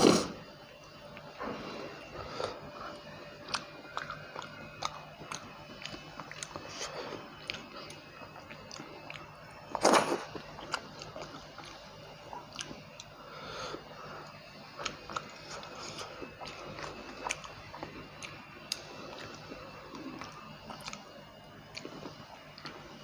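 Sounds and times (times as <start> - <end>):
person chewing food: 0.8 - 23.0.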